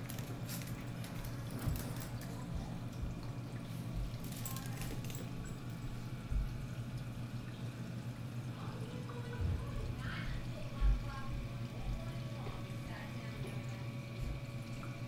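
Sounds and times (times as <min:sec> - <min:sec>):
low pump hum: 0:00.0 - 0:15.0
water trickling and splashing: 0:00.0 - 0:15.0.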